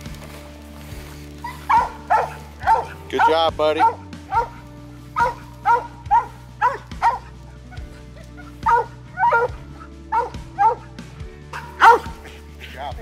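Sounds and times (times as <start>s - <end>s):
dog barking: 1.4s - 12.7s.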